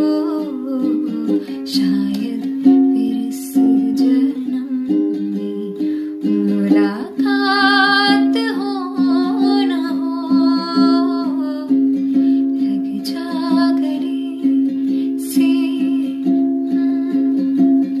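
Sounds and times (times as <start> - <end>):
ukulele strumming: 0.0 - 18.0
woman singing with vibrato: 0.0 - 18.0.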